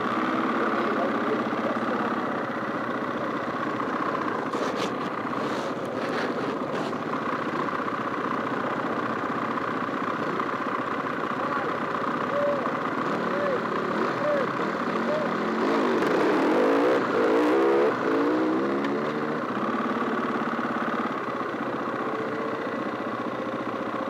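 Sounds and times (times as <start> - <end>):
motorcycle engines idling: 0.0 - 15.9, 16.9 - 24.0.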